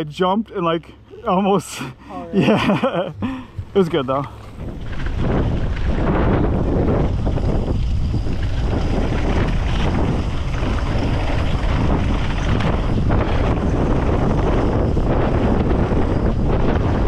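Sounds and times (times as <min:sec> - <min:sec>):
wind buffeting microphone: 0:02.3 - 0:17.0.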